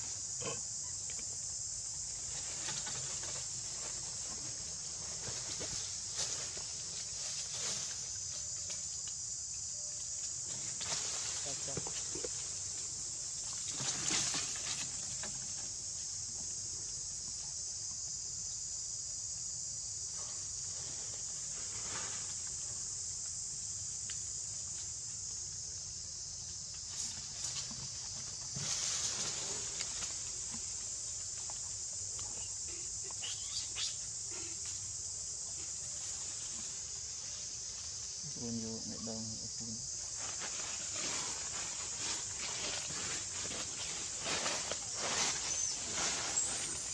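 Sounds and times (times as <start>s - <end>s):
insects chirping chorus: 0.0s - 46.9s.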